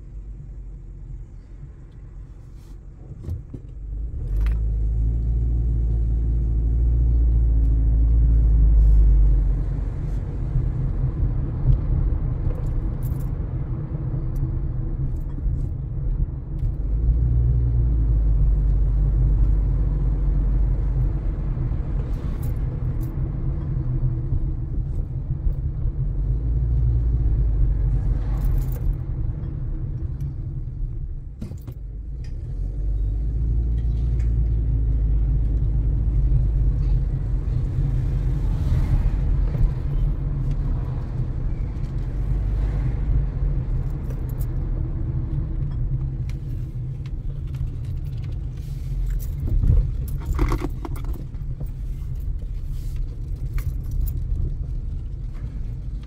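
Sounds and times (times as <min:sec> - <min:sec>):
car road rumble: 0:00.0 - 0:56.0.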